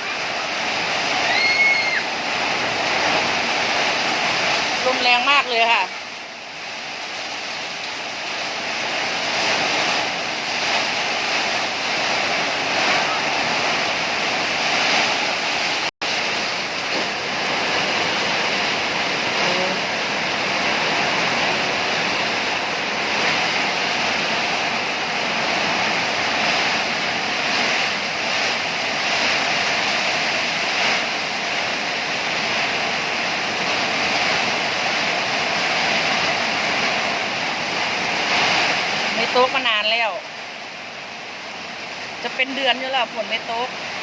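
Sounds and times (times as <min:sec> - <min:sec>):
heavy rain in strong wind: 0:00.0 - 0:44.0.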